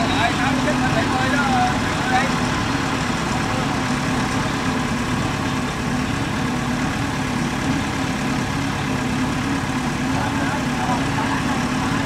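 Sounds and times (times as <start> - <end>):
combine harvester engine: 0.0 - 12.0
tractor engine droning: 0.0 - 12.0.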